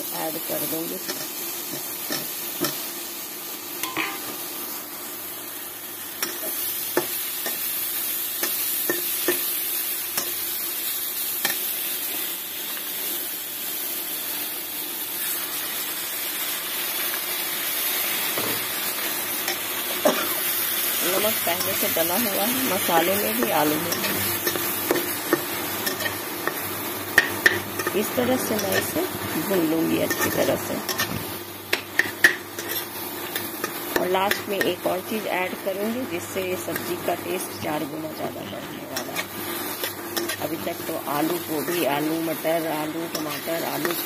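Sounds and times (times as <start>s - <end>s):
potatoes sizzling in hot oil: 0.0s - 44.0s.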